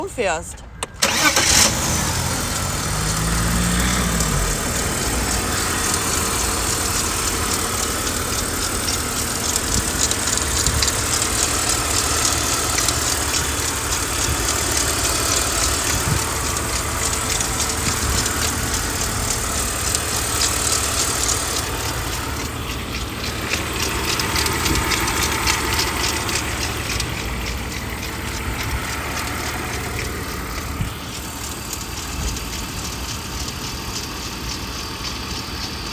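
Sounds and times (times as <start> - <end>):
car engine idling: 0.0 - 35.9
clattering rattle in engine: 0.6 - 35.9.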